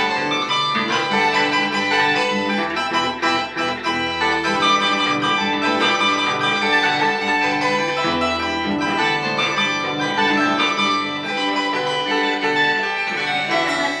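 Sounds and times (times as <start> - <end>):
harp plucked notes: 0.0 - 14.0.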